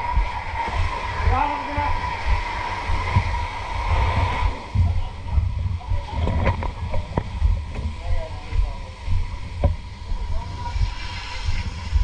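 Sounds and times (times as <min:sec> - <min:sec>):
steady high whine: 0:00.0 - 0:12.0
wind buffeting microphone: 0:00.0 - 0:12.0.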